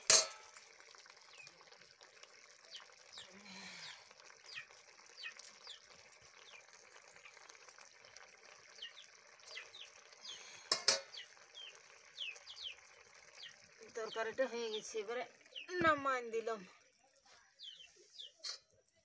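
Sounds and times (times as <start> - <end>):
small birds chirping: 1.1 - 19.0.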